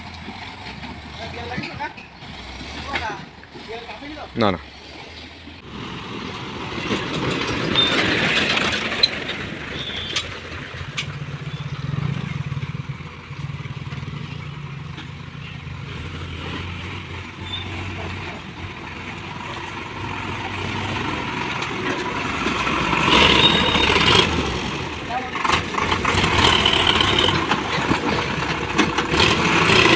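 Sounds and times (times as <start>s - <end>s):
diesel excavator engine: 0.0s - 29.9s.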